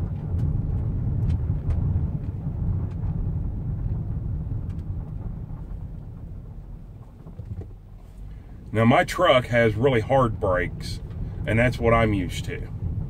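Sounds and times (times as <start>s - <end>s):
road and drivetrain rumble in car: 0.0s - 13.0s.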